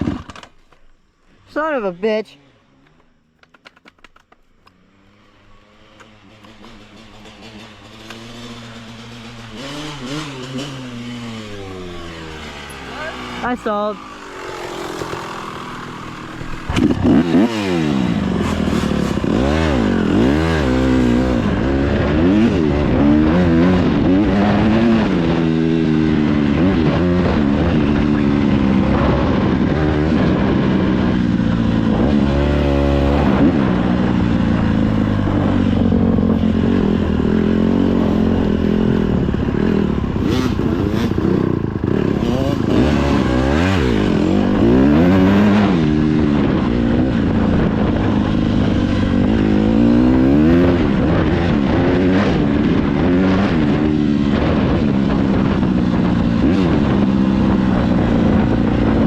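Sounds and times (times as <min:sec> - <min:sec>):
dirt bike engine revving: 0:04.7 - 0:59.0.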